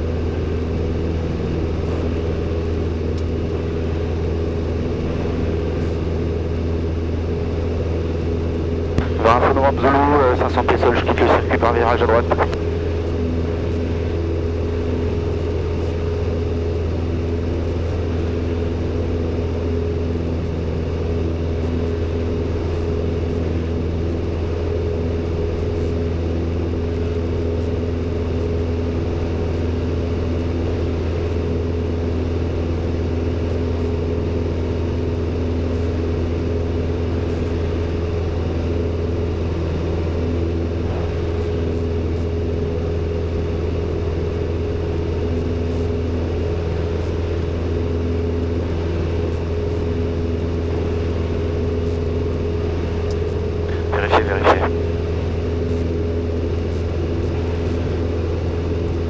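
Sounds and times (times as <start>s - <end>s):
aircraft engine and propeller droning: 0.0s - 59.0s.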